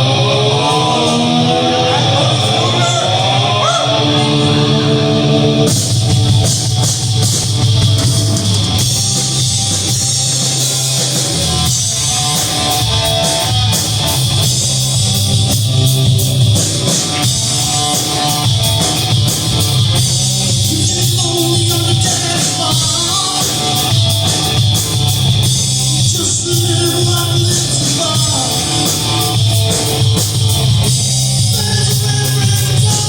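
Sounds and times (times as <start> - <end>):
distorted electric guitar chords: 0.0 - 33.0
drum kit and cymbals: 3.9 - 33.0.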